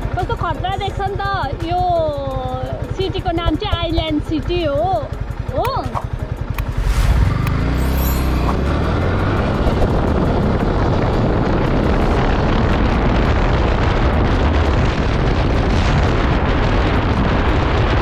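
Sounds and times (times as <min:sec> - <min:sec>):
motorcycle engine and road noise: 0:00.0 - 0:18.0
wind buffeting microphone: 0:00.4 - 0:18.0.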